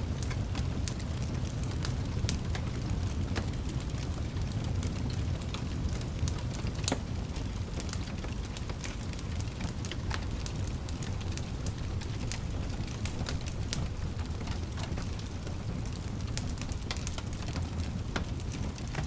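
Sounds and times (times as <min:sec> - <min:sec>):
wood fire burning: 0:00.0 - 0:19.0.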